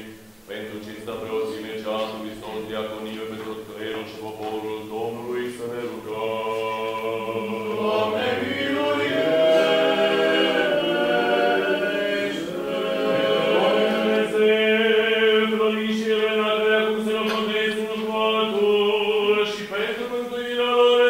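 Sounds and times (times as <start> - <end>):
voices chanting unaccompanied: 0.0 - 21.0.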